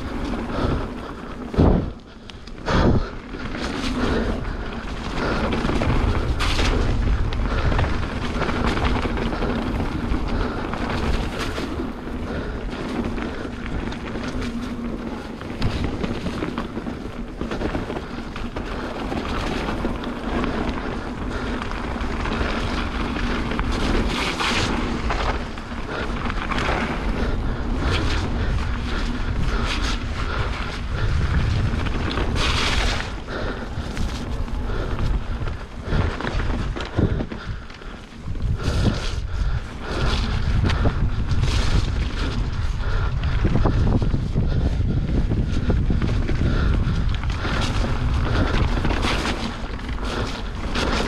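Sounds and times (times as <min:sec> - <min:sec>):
bike rumbling over rough ground: 0:00.0 - 0:51.0
wind buffeting microphone: 0:00.0 - 0:51.0.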